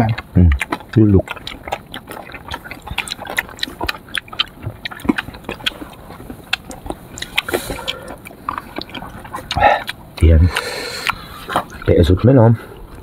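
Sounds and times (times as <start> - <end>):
chewing and biting fruit: 0.0 - 13.0.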